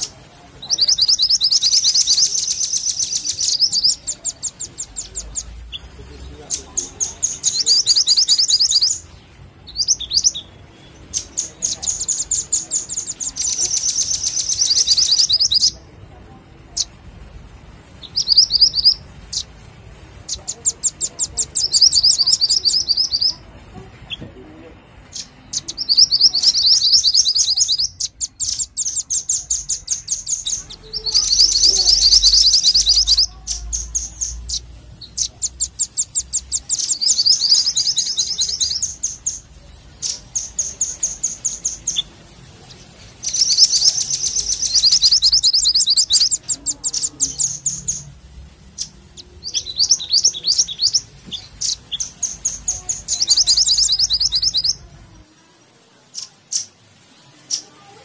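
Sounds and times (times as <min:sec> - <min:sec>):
songbird trilling: 0:00.0 - 0:15.9, 0:18.0 - 0:19.6, 0:20.2 - 0:23.5, 0:25.0 - 0:54.9.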